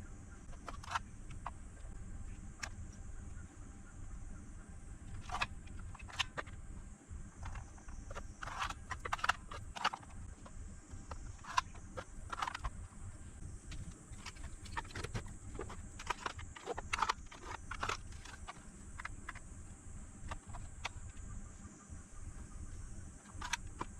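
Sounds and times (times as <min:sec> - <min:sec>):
steady low hum: 0:00.0 - 0:23.9
battery cells clicking when handled: 0:00.4 - 0:03.5, 0:05.0 - 0:06.7, 0:07.4 - 0:23.9.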